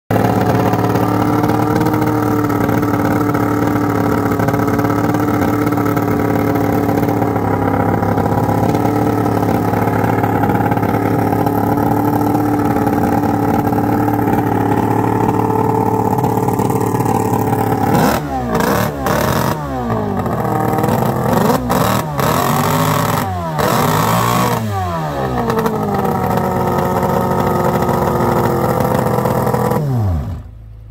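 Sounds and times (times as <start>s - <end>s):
outboard racing engine revving: 0.1s - 30.6s.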